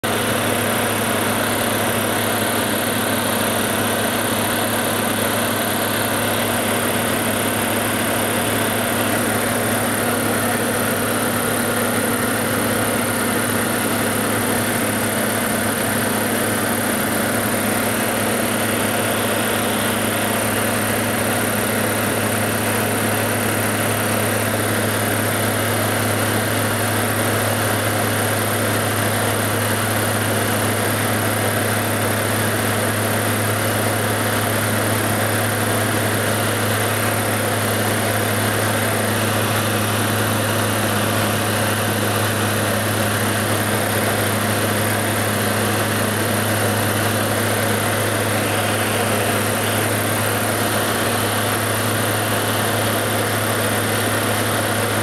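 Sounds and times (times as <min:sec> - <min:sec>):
aircraft engine droning in cabin: 0:00.0 - 0:55.0.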